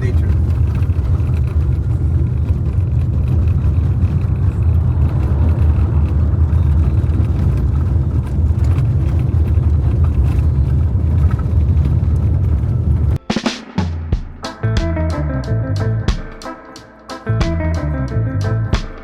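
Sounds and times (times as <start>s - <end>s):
car engine and road noise: 0.0s - 13.2s, 14.0s - 16.1s, 17.2s - 19.0s.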